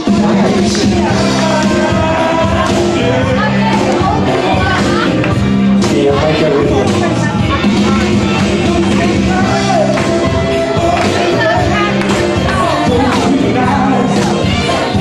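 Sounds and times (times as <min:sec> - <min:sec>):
music with singing voice: 0:00.0 - 0:15.0.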